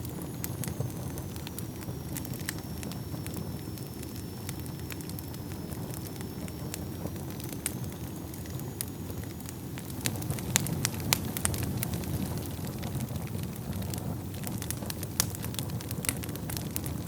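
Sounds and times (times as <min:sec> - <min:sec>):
fire crackling and popping: 0:00.0 - 0:17.0
flames rumbling: 0:00.0 - 0:17.0.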